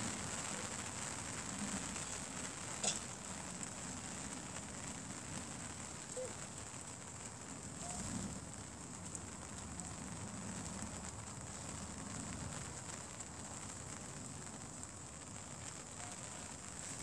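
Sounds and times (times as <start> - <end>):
light rain hissing: 0.0 - 17.0
raindrops crackling: 0.0 - 17.0.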